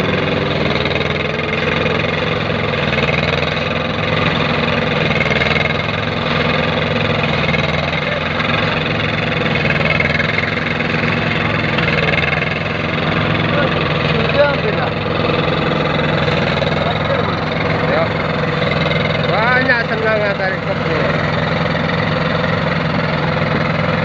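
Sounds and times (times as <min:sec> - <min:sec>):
machine engine humming: 0:00.0 - 0:24.0.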